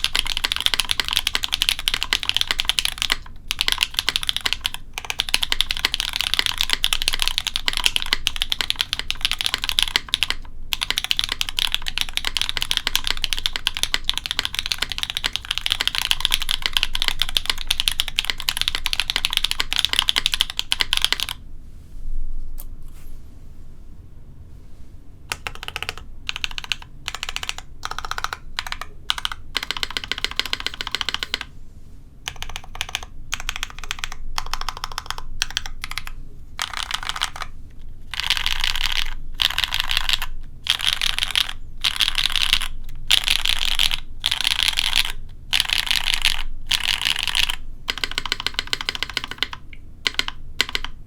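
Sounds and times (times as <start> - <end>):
fast typing on mechanical keyboard: 0.0 - 21.4, 25.3 - 31.5, 32.3 - 51.0.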